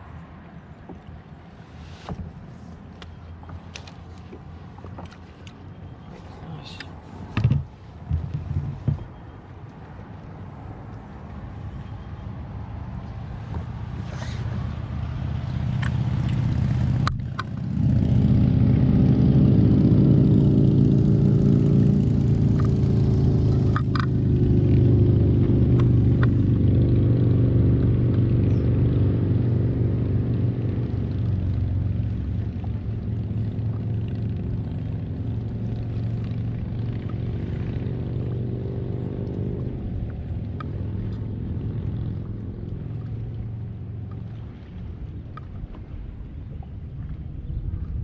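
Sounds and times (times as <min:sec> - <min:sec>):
personal watercraft engine: 0:00.0 - 0:48.0.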